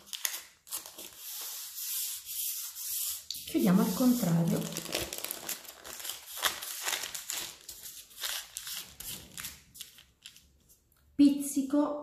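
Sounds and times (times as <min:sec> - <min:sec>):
parchment paper crinkling: 0:00.0 - 0:11.0.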